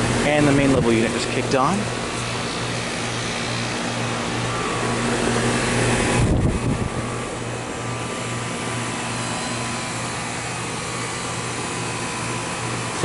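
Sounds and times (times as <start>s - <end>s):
air conditioner fan rush: 0.0s - 13.0s.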